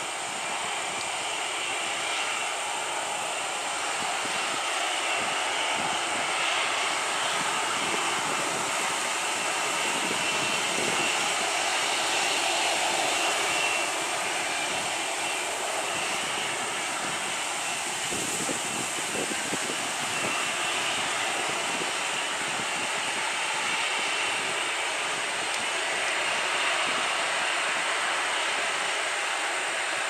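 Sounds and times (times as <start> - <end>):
jet engines running: 0.0 - 30.0.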